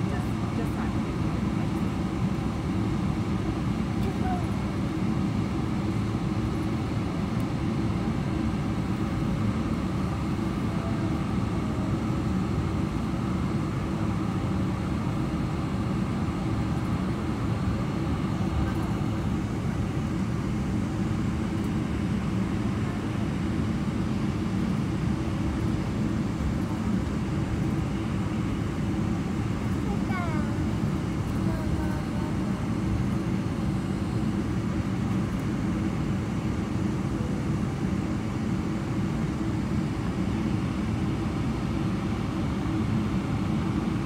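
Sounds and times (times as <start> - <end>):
aircraft cabin rumble: 0.0 - 44.0.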